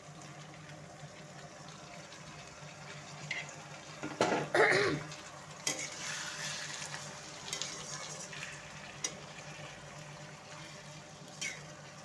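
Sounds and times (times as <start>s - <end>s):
onions and tomatoes sizzling: 0.0s - 12.0s.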